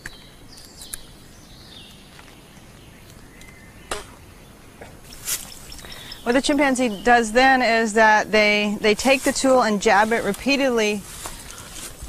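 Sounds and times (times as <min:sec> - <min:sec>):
bird calling: 0:00.0 - 0:11.7.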